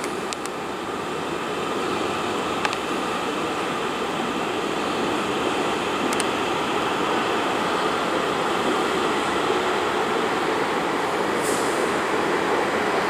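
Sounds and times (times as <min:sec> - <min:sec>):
passenger train rushing past: 0:00.0 - 0:13.0.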